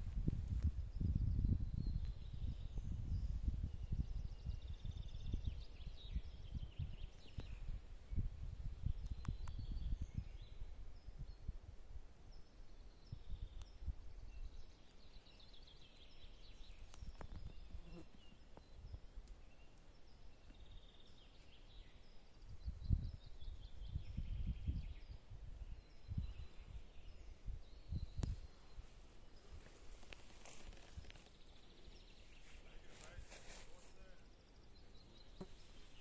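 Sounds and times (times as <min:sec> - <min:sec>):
songbirds trilling: 0:00.8 - 0:36.0.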